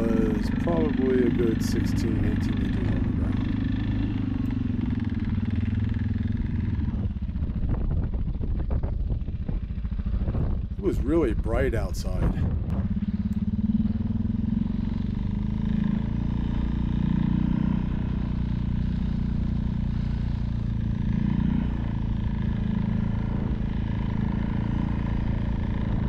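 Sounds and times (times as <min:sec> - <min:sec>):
vehicle engine driving over snow: 0:00.0 - 0:26.0.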